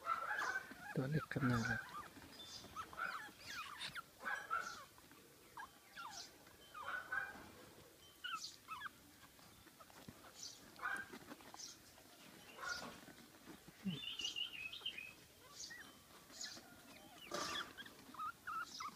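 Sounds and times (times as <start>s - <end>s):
puppy whining: 0.0s - 18.9s.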